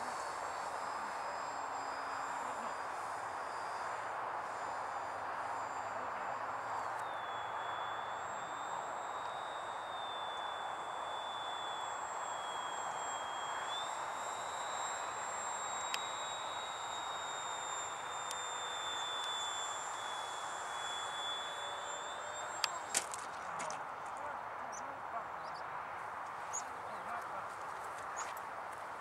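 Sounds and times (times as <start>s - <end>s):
model airplane whine: 0.0s - 29.0s.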